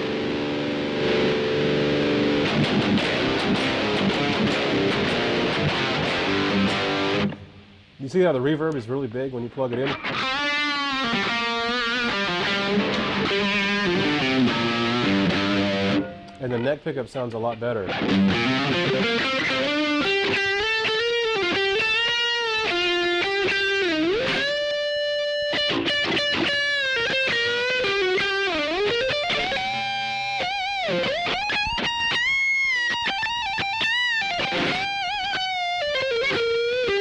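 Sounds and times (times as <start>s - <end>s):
electric guitar lead with reverb: 0.0s - 7.9s, 9.7s - 16.7s, 17.7s - 37.0s.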